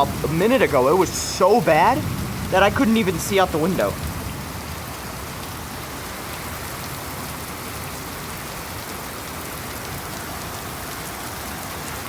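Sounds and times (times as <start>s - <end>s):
torrential rain hissing: 0.0s - 12.0s.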